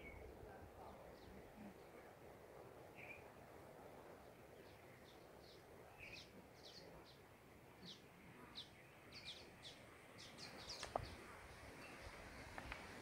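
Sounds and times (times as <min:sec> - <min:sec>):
small birds chirping: 0:00.0 - 0:02.2, 0:02.8 - 0:13.0.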